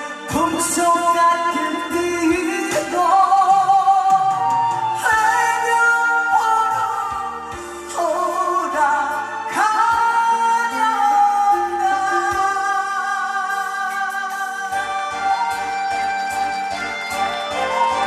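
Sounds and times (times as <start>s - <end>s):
backing track music: 0.0s - 18.0s
person singing into microphone: 0.0s - 18.0s.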